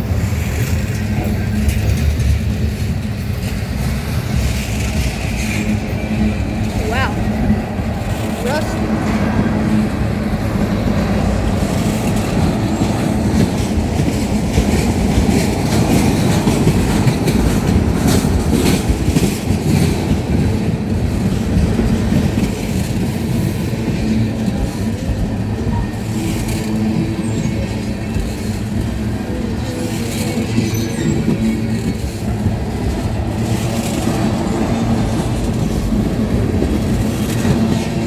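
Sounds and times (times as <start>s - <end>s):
train wheels rumbling on rail: 0.0s - 38.0s
wheels clacking over rail joints: 0.0s - 38.0s.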